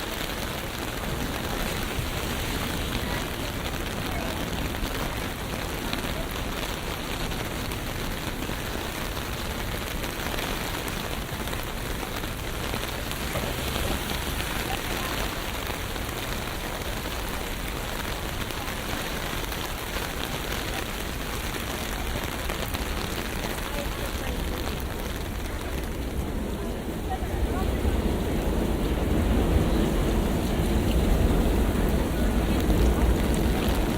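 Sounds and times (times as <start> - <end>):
low rumble of traffic: 0.0 - 33.9
steady rain falling: 0.0 - 33.9.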